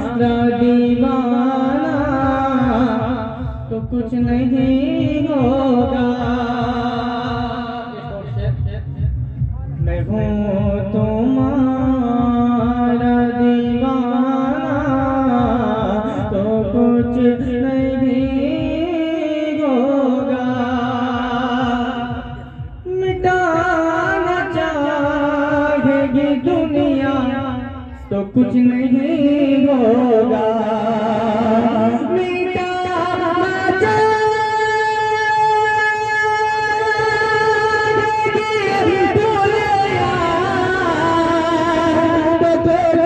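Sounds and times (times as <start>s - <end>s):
man singing devotional song: 0.0s - 43.0s.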